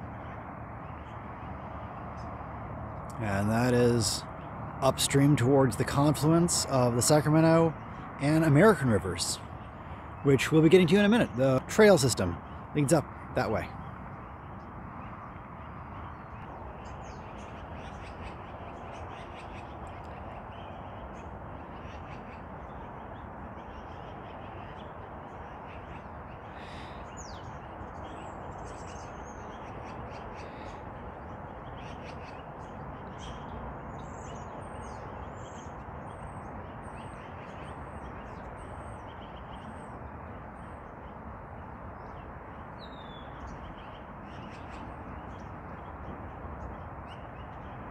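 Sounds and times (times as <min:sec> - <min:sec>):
small birds chirping: 0:00.1 - 0:47.9
magpies calling: 0:03.3 - 0:40.9, 0:42.0 - 0:45.9.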